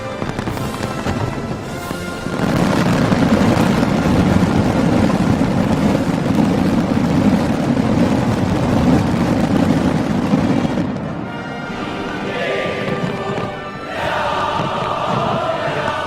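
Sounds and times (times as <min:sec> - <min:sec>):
fireworks rumble: 0:00.0 - 0:16.0.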